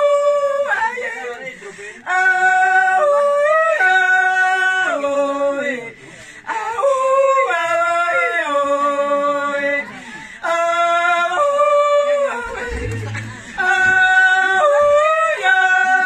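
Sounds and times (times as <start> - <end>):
women singing unaccompanied: 0.0 - 16.0.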